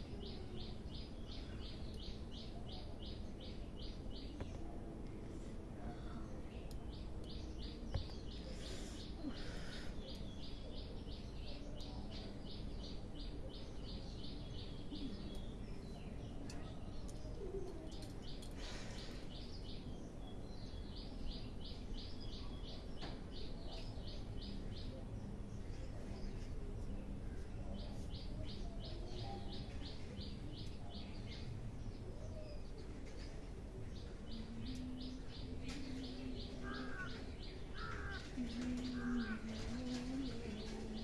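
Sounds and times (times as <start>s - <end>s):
low background noise: 0.0s - 41.0s.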